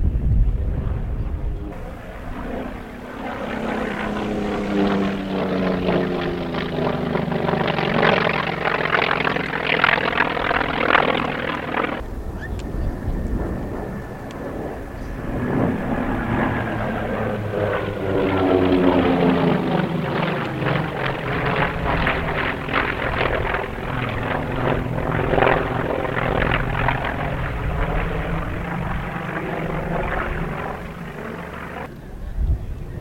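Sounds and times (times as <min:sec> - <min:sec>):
airplane engine flying past: 0:00.0 - 0:33.0.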